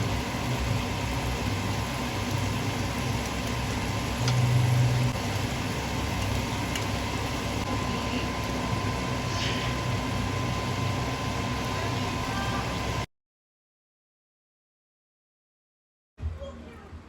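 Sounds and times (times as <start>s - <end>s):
low mechanical hum: 0.0s - 13.1s, 16.2s - 17.0s.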